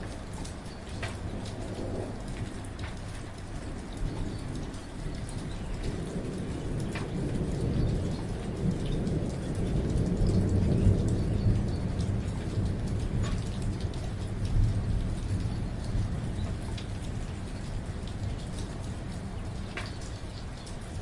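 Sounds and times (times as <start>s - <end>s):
distant thunder rumble: 0.0s - 21.0s
raindrops striking close by: 0.0s - 21.0s
steady rain: 0.0s - 21.0s.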